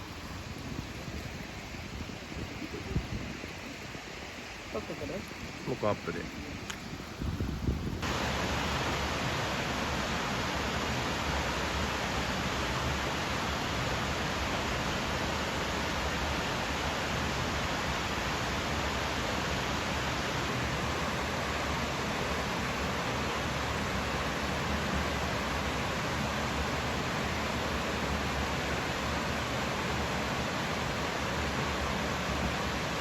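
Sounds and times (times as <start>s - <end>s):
waterfall splashing: 1.0s - 7.0s, 8.0s - 33.0s.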